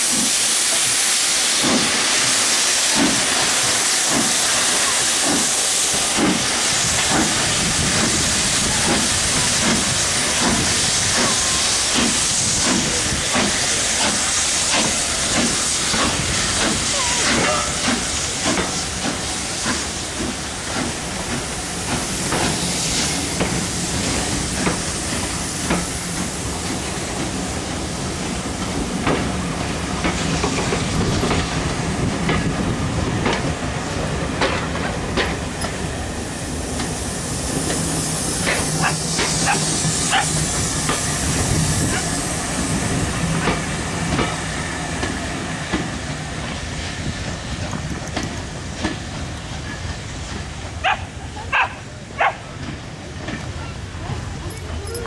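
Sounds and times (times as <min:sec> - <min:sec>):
steam hissing: 0:00.0 - 0:55.0.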